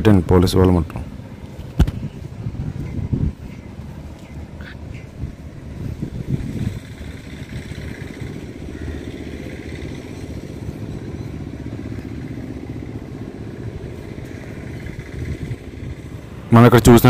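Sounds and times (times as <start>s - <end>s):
small engine running: 0.6s - 17.0s.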